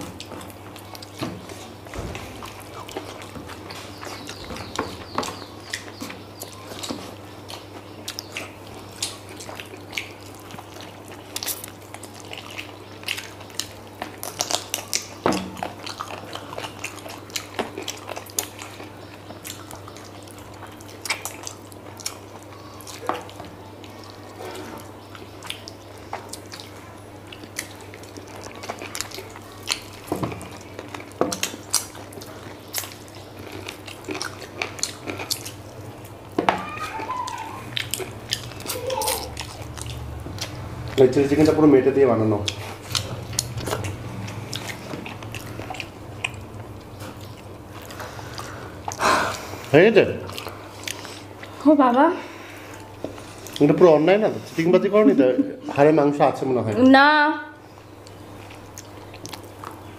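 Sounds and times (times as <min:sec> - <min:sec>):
chewing and mouth smacks: 0:00.0 - 0:41.4, 0:42.4 - 0:51.6, 0:52.6 - 0:53.8, 0:57.8 - 0:59.9
steady low hum: 0:00.0 - 0:55.8.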